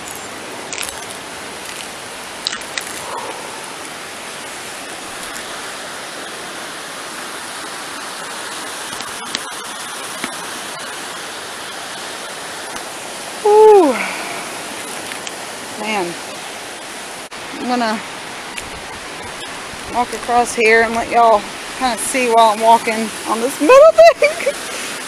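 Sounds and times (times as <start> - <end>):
river rapids roaring: 0.0 - 25.0.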